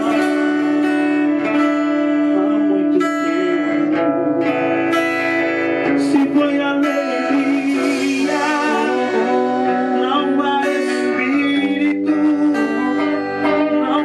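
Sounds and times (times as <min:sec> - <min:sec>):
live band playing gospel song: 0:00.0 - 0:14.0
person singing: 0:00.0 - 0:14.0.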